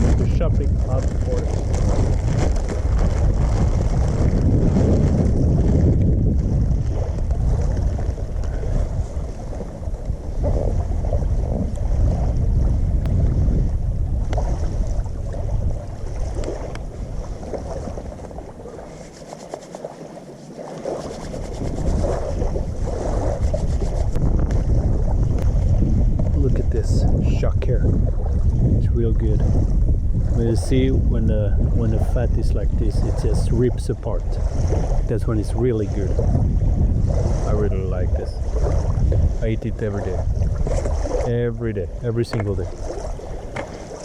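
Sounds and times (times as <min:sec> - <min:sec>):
wind buffeting microphone: 0:00.0 - 0:19.3, 0:20.8 - 0:44.0.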